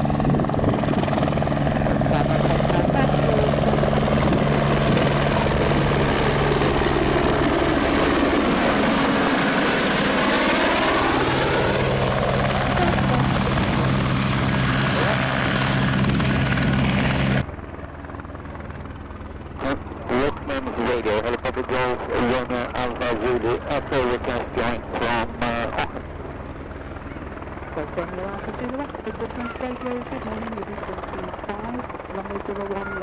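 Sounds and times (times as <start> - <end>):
helicopter rotor and engine hum: 0.0 - 33.0.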